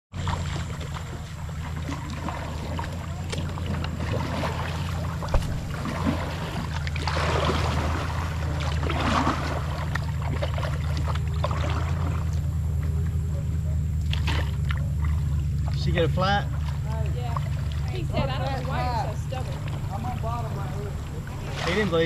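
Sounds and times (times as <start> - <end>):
steady low rumble: 0.1 - 22.0
water splashing along kayak hull: 0.1 - 22.0.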